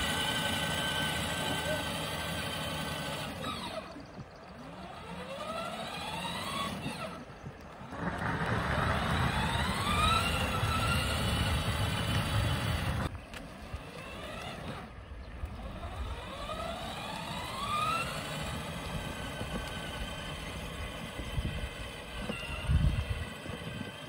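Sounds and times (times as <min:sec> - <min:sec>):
toy car electric motor whine: 0:00.0 - 0:24.0.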